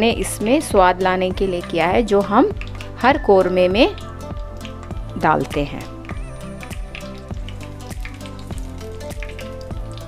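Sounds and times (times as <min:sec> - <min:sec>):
background music: 0:00.0 - 0:10.0
spices sizzling in hot oil: 0:00.0 - 0:10.0.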